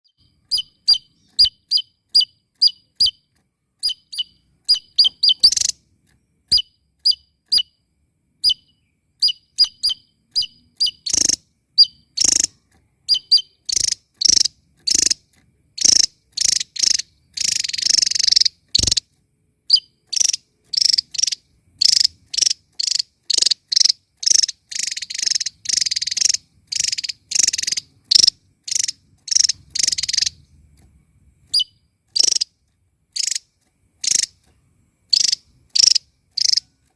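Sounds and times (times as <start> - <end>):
bird singing: 0.0 - 30.6, 31.5 - 36.9.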